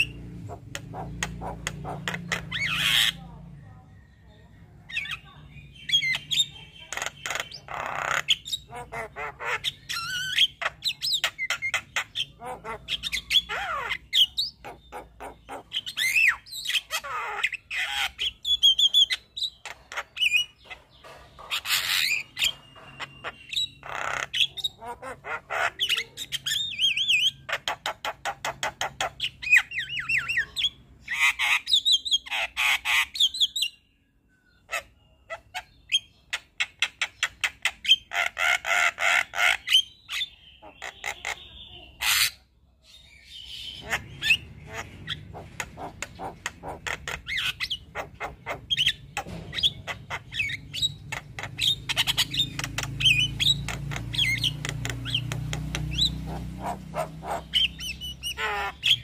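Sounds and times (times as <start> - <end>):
myna bird squawking and whistling: 4.9 - 33.9, 34.5 - 59.0.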